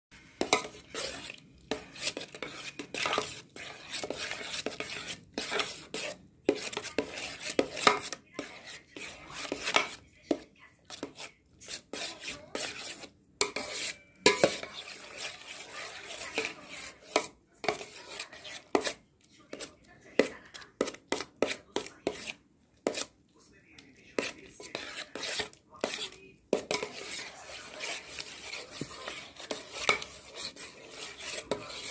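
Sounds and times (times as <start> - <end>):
spoon scraping a steel bowl: 0.2 - 23.2, 24.1 - 31.9.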